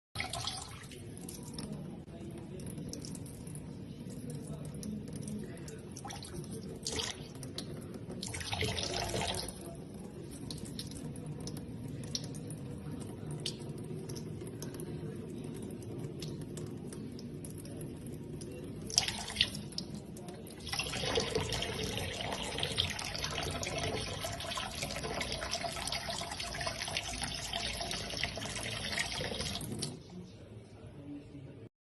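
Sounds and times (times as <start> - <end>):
tap water running into sink: 0.2 - 30.0.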